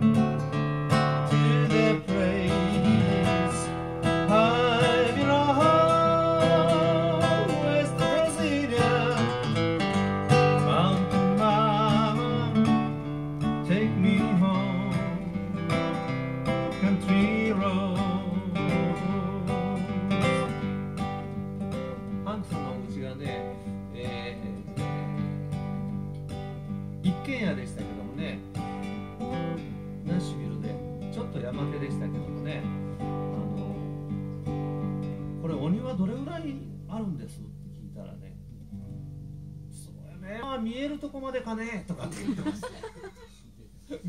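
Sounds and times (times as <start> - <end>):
fingerstyle acoustic guitar: 0.0 - 40.0.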